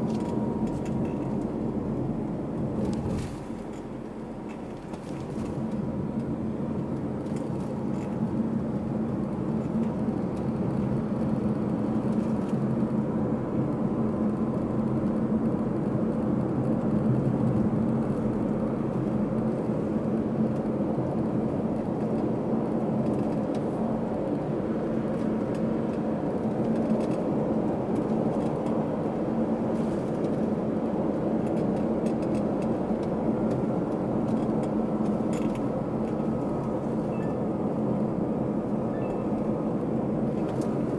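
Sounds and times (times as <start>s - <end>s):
low engine hum: 0.0s - 40.9s
road and tyre noise: 0.0s - 40.9s.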